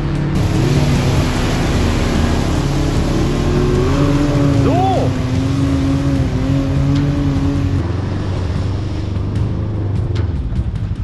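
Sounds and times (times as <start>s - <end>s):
utv engine running hard: 0.0s - 11.0s
vehicle pushing through mud and water: 0.0s - 11.0s.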